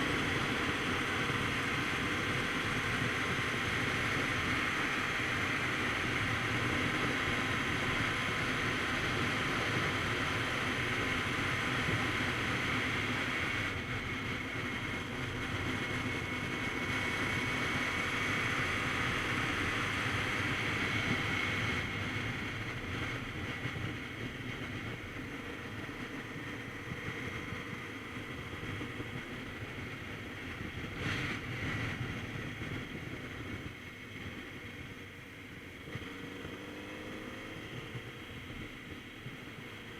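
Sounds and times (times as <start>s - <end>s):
wind noise on microphone: 0.0s - 36.0s
motorcycle engine hum: 0.0s - 39.9s.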